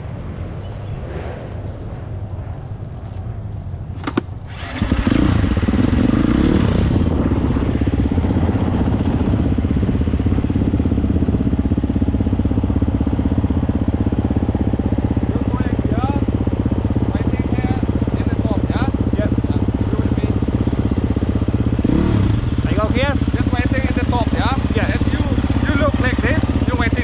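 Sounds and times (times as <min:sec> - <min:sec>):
dirt bike engine starting and idling: 0:04.0 - 0:27.0.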